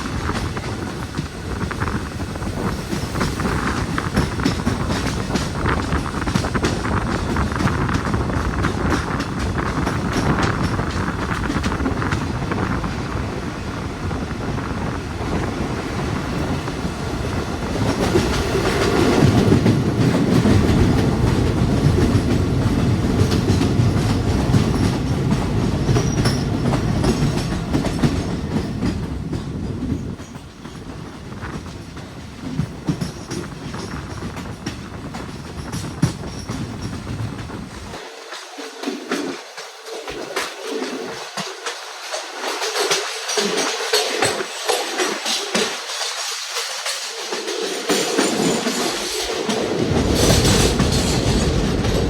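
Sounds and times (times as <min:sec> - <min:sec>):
train wheels clattering on track: 0:00.0 - 0:52.0.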